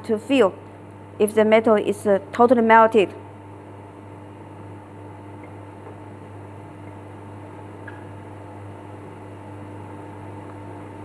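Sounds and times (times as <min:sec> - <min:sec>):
electrical hum with held tones: 0:00.0 - 0:11.0.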